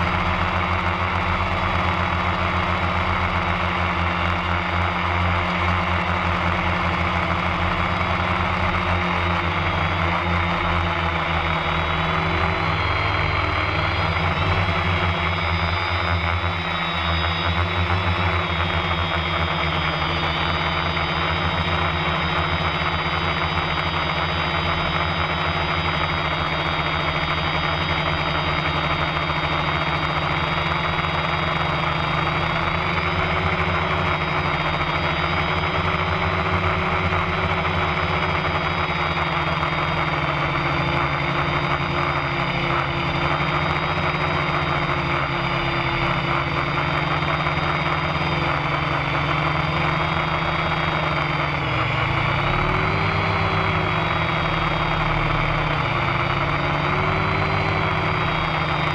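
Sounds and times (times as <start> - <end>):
drone motors and propellers humming: 0.0 - 58.9.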